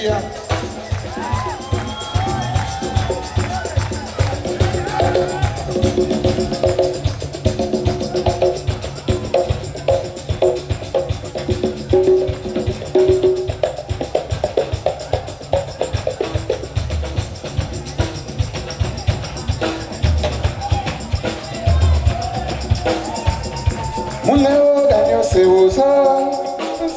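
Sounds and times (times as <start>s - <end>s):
busy percussion: 0.0s - 26.9s
live band playing instrumental: 0.0s - 26.9s.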